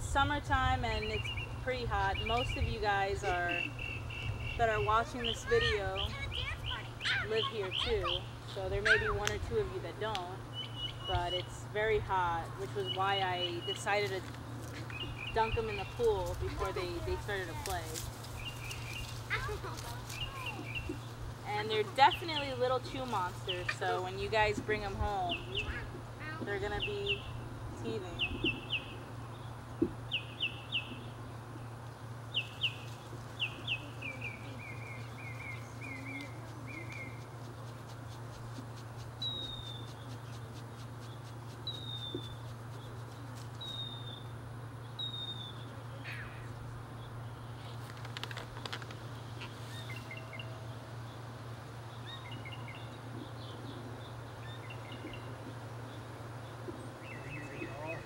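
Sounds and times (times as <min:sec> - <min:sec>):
steady low hum: 0:00.0 - 0:58.0
songbird chirping: 0:00.8 - 0:58.0.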